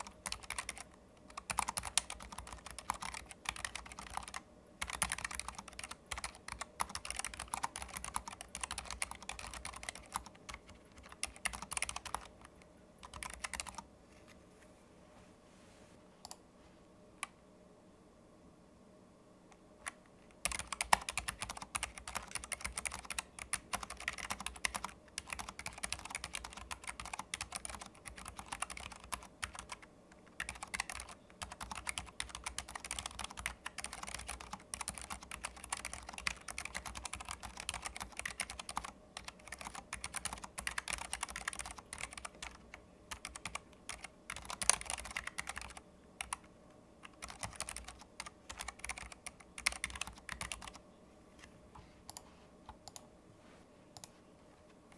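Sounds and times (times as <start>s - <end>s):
keyboard typing clicks: 0.0s - 13.9s, 19.8s - 50.8s, 52.1s - 53.1s, 54.0s - 54.2s.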